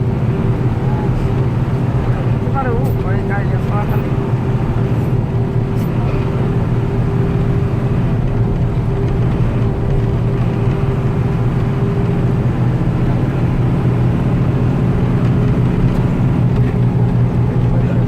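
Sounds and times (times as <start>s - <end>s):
bus engine droning: 0.0s - 18.0s
road noise: 0.0s - 18.0s.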